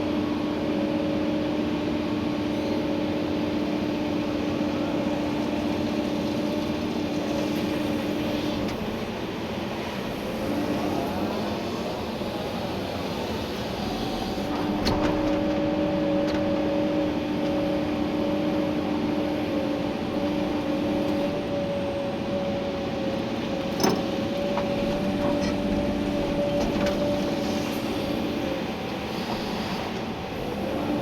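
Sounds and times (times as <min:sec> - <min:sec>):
steady machine whine: 0:00.0 - 0:31.0
excavator running: 0:00.1 - 0:31.0.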